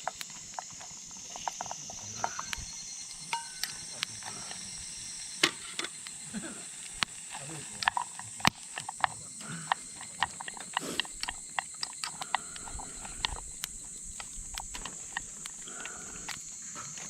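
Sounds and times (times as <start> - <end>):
campfire crackling: 0.0 - 17.0
sharp pops and snaps: 0.0 - 17.0
steady high hiss: 0.0 - 17.0.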